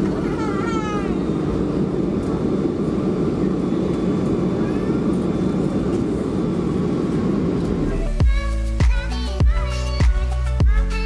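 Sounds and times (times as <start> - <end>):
jet engines rumbling drone: 0.0 - 11.0.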